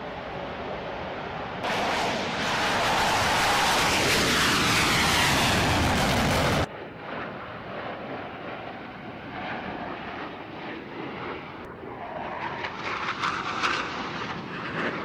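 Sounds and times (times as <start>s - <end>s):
aircraft flying past low: 0.0s - 15.0s
dull aircraft engine: 0.0s - 15.0s.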